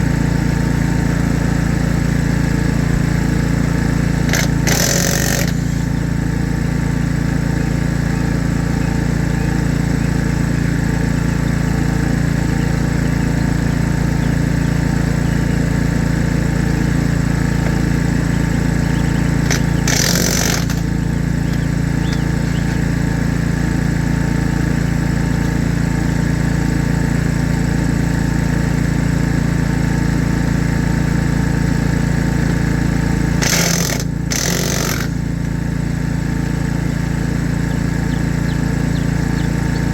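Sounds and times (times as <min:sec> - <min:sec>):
engine running with low pulse: 0:00.0 - 0:39.9.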